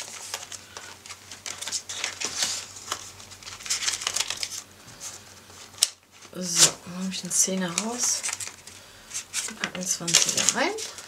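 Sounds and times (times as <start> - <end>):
plastic pockets and paper crinkling: 0.0 - 11.0.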